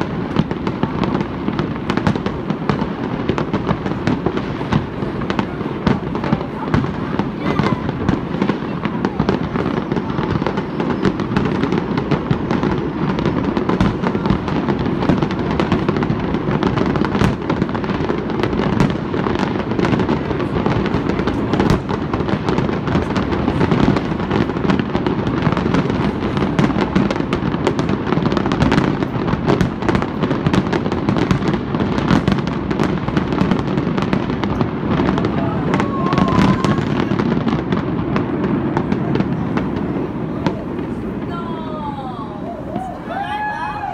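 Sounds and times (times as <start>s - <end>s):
fireworks bursting: 0.0s - 43.9s.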